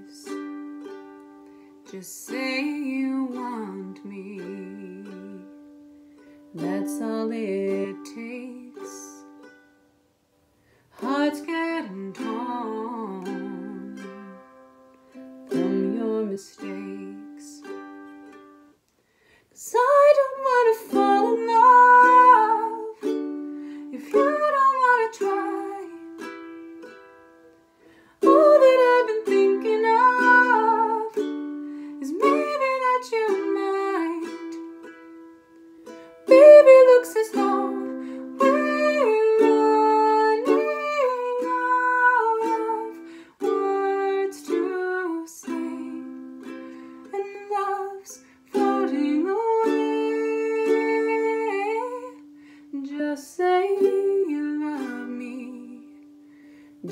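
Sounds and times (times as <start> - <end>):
woman singing: 0.0 - 1.0, 1.8 - 5.7, 6.4 - 9.5, 10.9 - 18.3, 19.6 - 27.3, 28.2 - 56.2
ukulele strumming: 0.0 - 18.8, 19.6 - 56.9.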